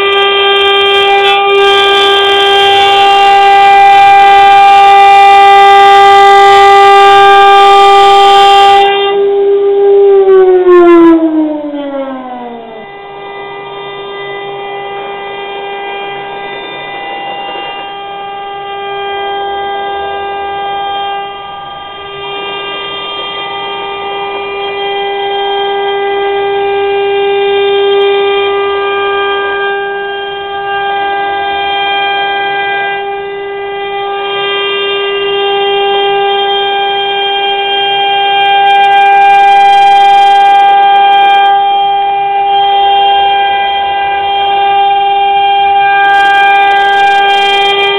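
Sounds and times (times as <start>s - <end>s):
cnc router spindle whining: 0.0s - 47.9s
tone gliding down in pitch: 2.3s - 47.9s.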